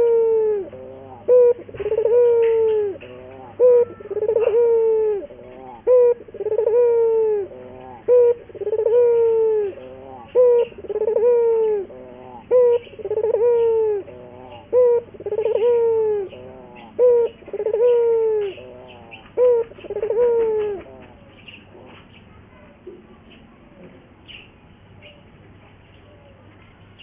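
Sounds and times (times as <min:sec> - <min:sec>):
dove cooing: 0:00.0 - 0:25.3.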